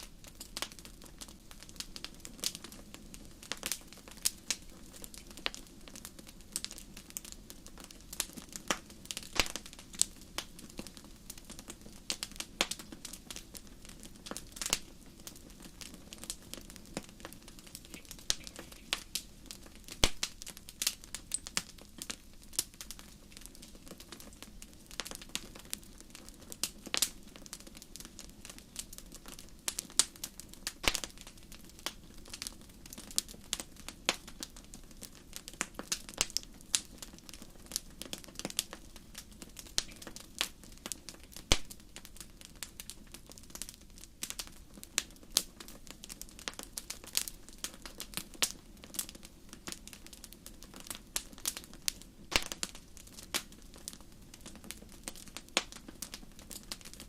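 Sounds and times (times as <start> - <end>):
campfire pops and snaps: 0.0 - 57.0
low rustle of burning: 0.0 - 57.0.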